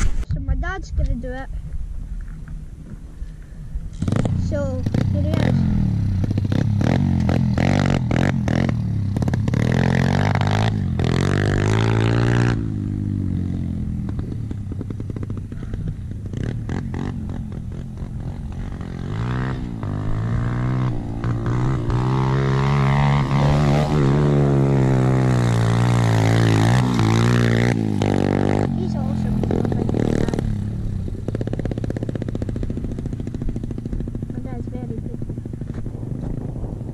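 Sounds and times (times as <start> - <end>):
dirt bike engine revving: 3.9 - 36.9.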